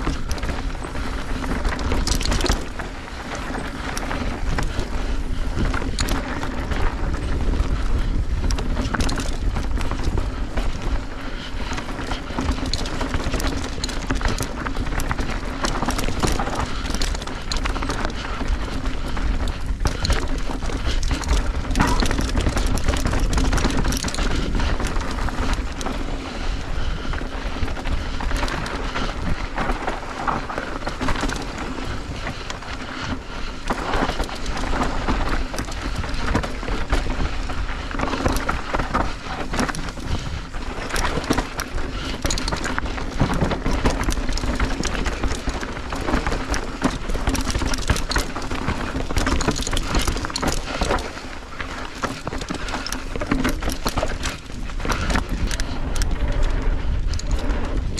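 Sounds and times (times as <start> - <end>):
bike rattling and knocking: 0.0 - 57.9
bike tyres crunching over dirt: 0.0 - 57.9.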